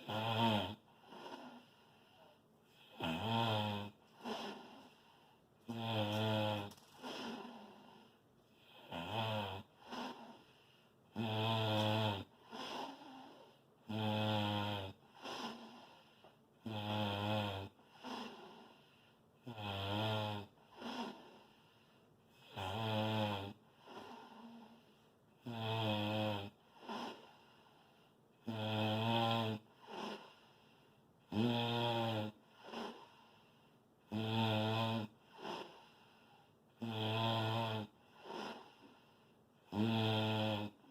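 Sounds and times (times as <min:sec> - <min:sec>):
loud snoring: 0:00.0 - 0:18.8, 0:19.4 - 0:21.8, 0:22.4 - 0:30.6, 0:31.3 - 0:33.4, 0:34.1 - 0:40.9.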